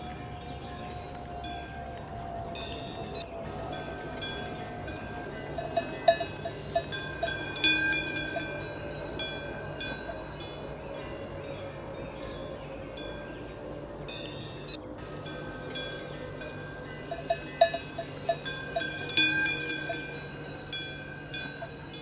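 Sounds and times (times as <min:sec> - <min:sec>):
metal bells ringing: 0:02.6 - 0:22.0.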